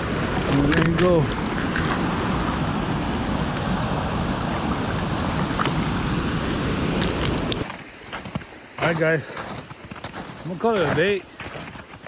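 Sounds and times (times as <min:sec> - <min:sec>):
creek water rushing: 0:00.0 - 0:11.9.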